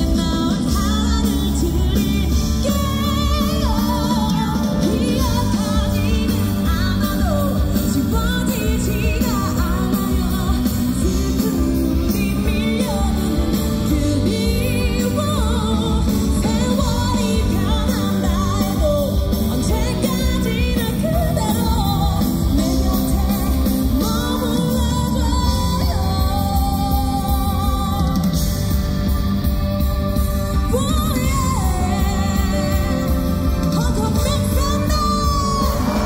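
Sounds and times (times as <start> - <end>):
amplified band backing music: 0.0 - 36.0
woman singing into microphone: 0.0 - 36.0.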